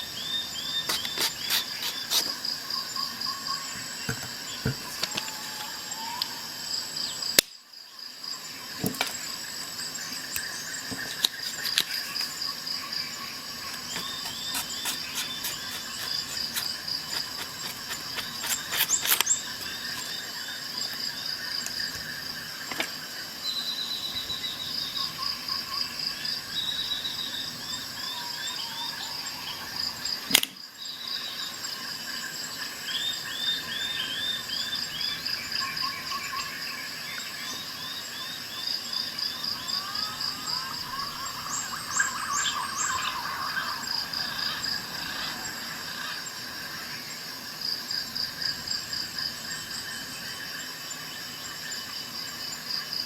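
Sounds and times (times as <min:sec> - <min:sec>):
crickets trilling: 0:00.0 - 0:53.0
higher insect chirps: 0:00.0 - 0:53.0.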